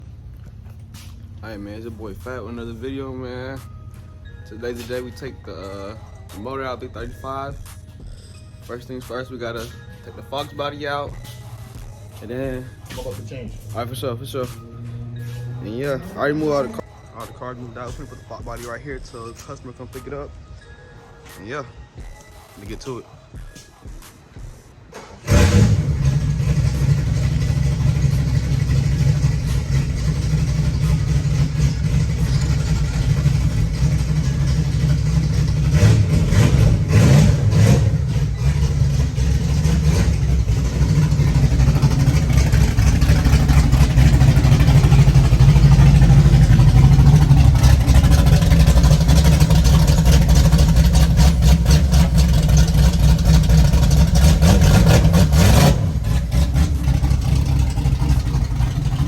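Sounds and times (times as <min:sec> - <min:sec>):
car engine rumbling: 0:00.0 - 0:20.9, 0:24.8 - 0:59.0.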